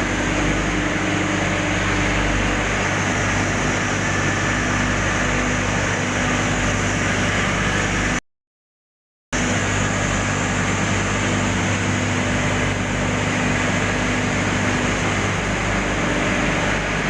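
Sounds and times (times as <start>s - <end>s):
furnace machinery humming: 0.0s - 7.4s, 9.4s - 17.0s.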